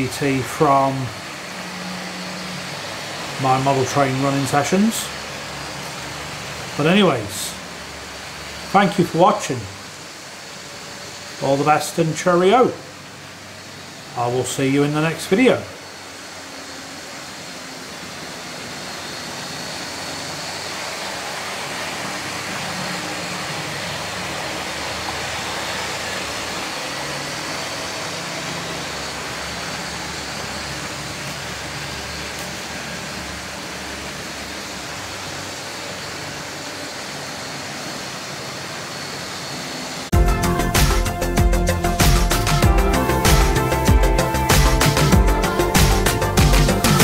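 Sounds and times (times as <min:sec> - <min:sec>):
model train motor humming: 0:00.0 - 0:40.2
high-pitched whine: 0:00.0 - 0:47.0.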